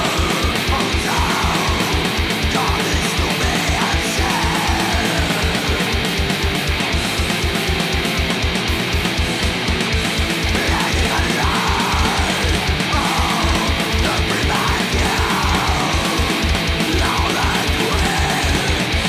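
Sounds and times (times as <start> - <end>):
distorted electric guitars: 0.0 - 19.0
fast kick-drum beat: 0.0 - 19.0.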